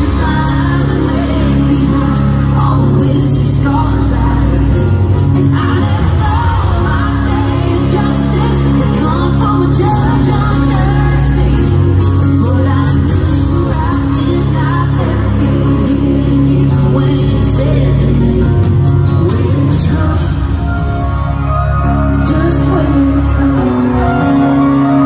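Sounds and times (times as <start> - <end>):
live country band playing: 0.0 - 25.0
person singing: 0.0 - 25.0.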